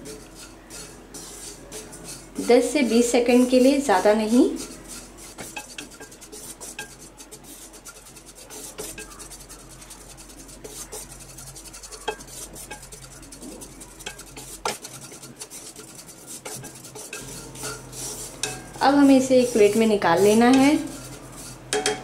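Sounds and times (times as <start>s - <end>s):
spatula scraping roasting seeds: 0.0s - 22.0s
spatula knocking on pan: 1.8s - 22.0s.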